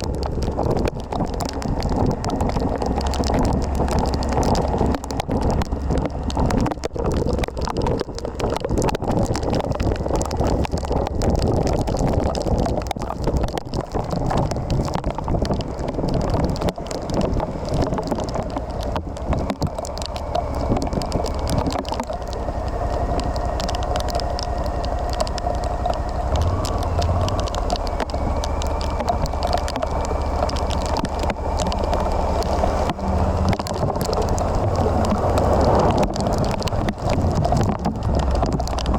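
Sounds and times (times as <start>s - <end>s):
motorcycle engine running: 0.0s - 12.0s, 14.0s - 38.9s
wind noise on microphone: 0.0s - 38.9s.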